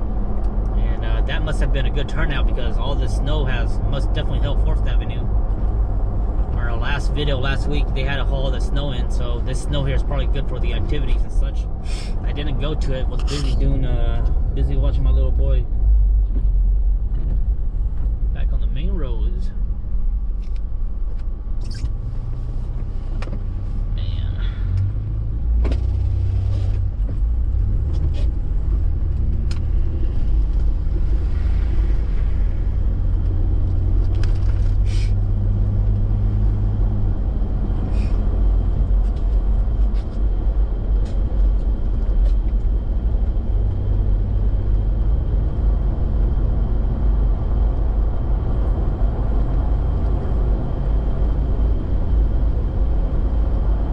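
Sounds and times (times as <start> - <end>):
engine and road rumble: 0.0 - 53.9.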